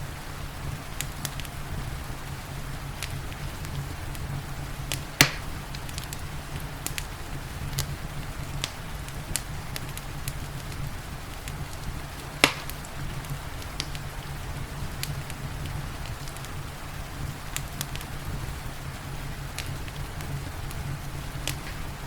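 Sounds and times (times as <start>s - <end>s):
steady low rumble: 0.0s - 22.0s
wood fire crackling: 0.0s - 22.0s
loud fire pops: 0.7s - 22.0s.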